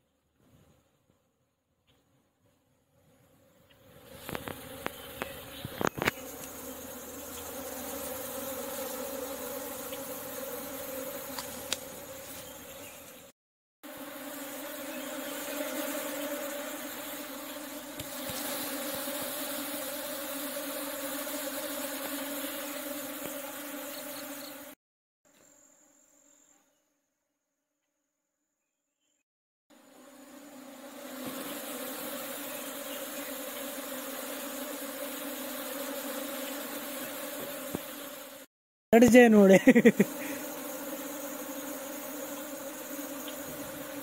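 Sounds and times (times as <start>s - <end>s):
bees buzzing: 3.0s - 24.8s, 29.7s - 44.0s.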